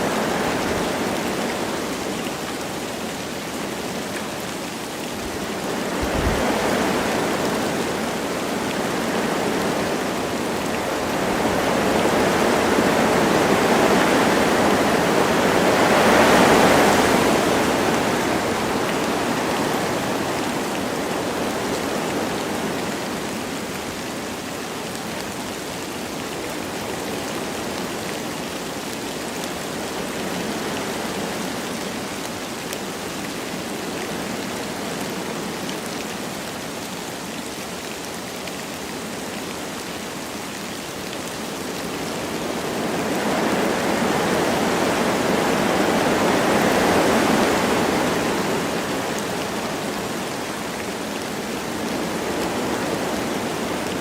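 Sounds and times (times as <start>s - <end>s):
light rain falling: 0.0s - 54.0s
wind through trees: 0.0s - 54.0s.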